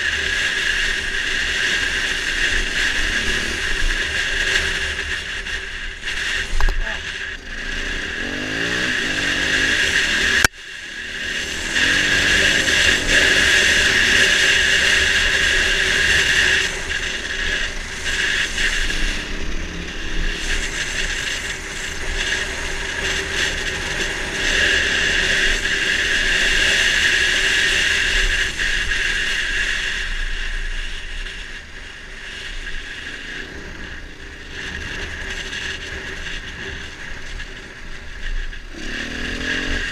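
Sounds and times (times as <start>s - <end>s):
dirt bike engine revving: 0.0s - 31.4s, 32.2s - 39.9s.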